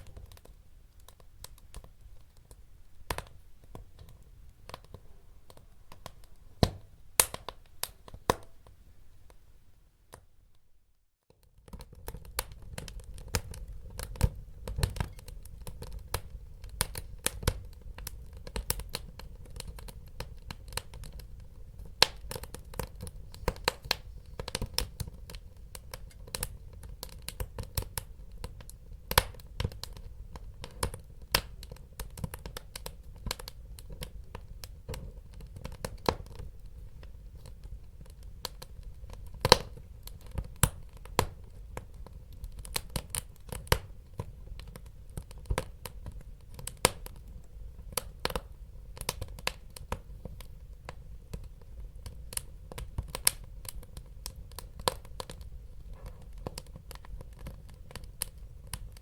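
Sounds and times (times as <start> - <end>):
wood fire crackling: 0.0 - 9.5, 11.4 - 59.0.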